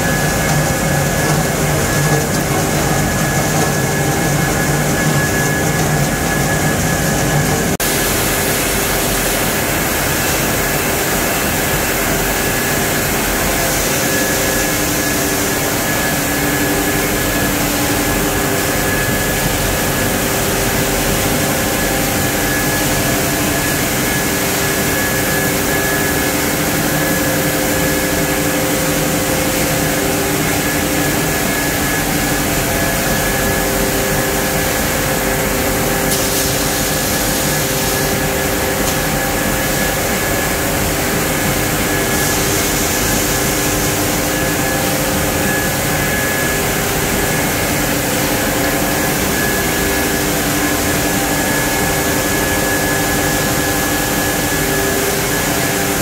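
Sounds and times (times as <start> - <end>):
machinery drone: 0.0 - 56.0.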